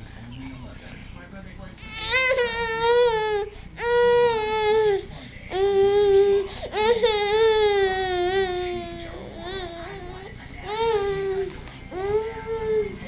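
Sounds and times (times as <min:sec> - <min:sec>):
baby crying: 0:01.8 - 0:13.0.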